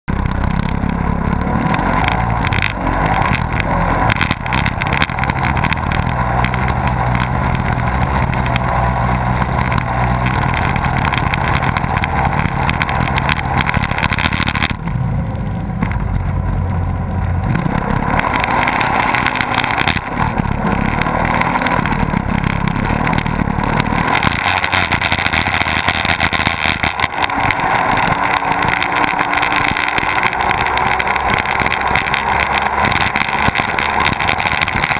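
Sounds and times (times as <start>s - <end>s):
outboard motors at high speed: 0.1s - 34.9s.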